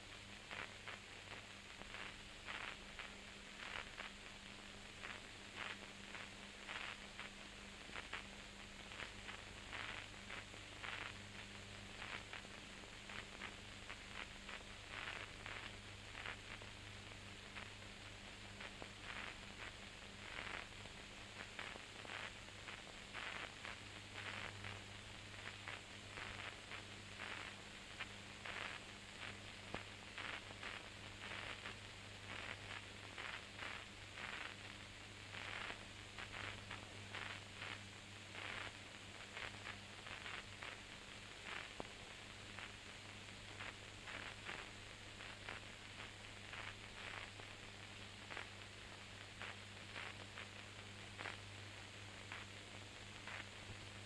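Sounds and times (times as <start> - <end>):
recording hiss and crackle: 0.0 - 54.0
steady low hum: 0.0 - 54.0.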